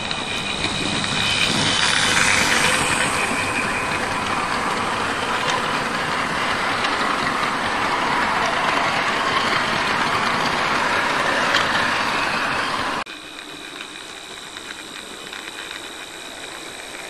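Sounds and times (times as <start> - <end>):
model train motor whine: 0.0 - 17.0
train wheels rolling on track: 0.0 - 17.0.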